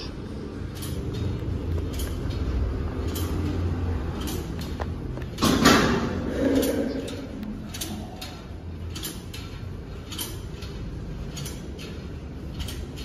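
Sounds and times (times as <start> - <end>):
weight machine plates clanking: 0.6 - 13.0.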